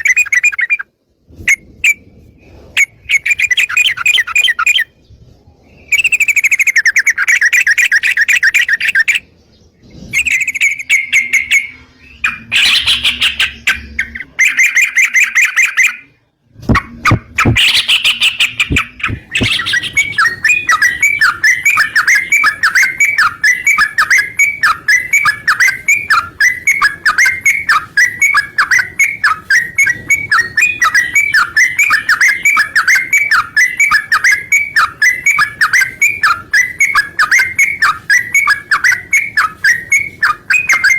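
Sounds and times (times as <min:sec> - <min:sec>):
bulbul song: 0:00.0 - 0:00.9, 0:02.8 - 0:04.9, 0:05.9 - 0:09.4, 0:10.1 - 0:40.9.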